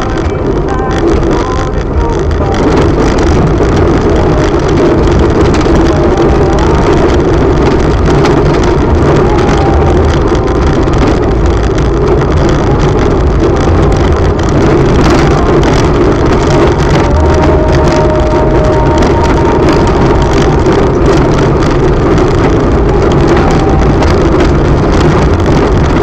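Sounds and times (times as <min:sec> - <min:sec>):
car engine: 0:00.0 - 0:26.0
tyres rumbling on cobblestones: 0:00.0 - 0:26.0.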